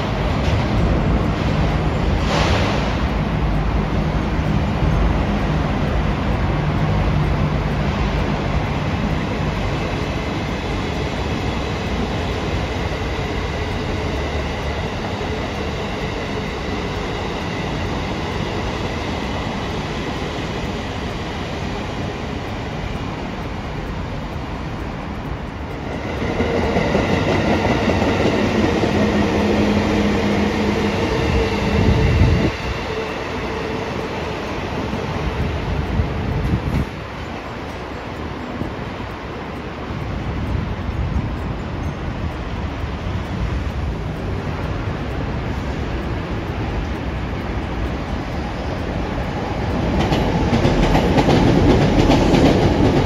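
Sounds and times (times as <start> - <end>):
train rumbling on rails: 0.0 - 53.0.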